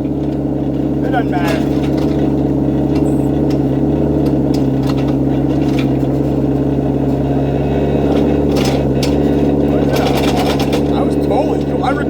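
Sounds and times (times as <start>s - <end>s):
engine droning steadily: 0.0s - 12.0s.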